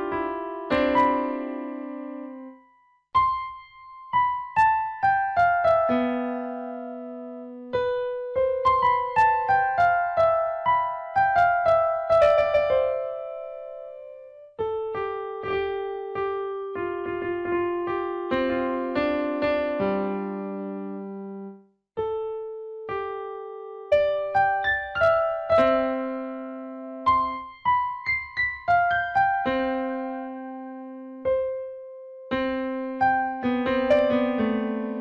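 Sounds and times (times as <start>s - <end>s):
slow piano melody: 0.0s - 35.0s.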